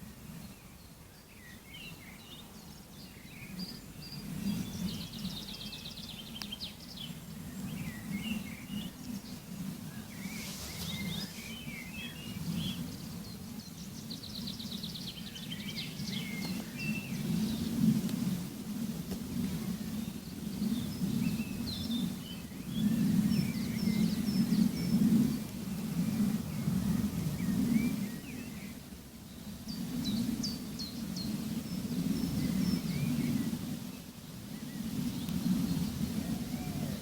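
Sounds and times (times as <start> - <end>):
small birds chirping: 0.3 - 18.3, 19.1 - 37.0.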